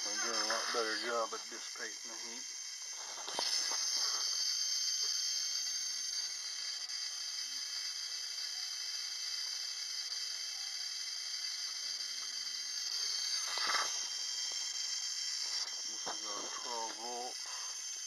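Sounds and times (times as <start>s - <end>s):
ignition coil spark hissing: 0.0s - 18.0s.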